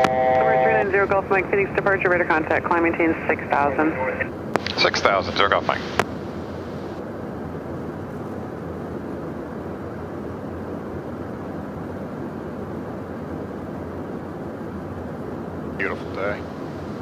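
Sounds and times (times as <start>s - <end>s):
jet cockpit airflow and engine noise: 0.0s - 17.0s.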